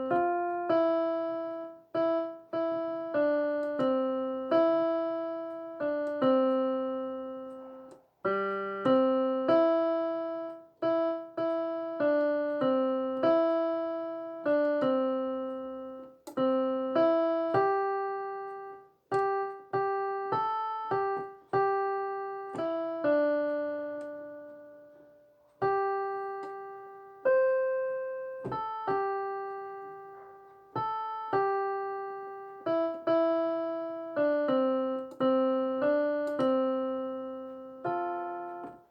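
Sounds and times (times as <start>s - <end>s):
slow piano melody: 0.0s - 38.9s.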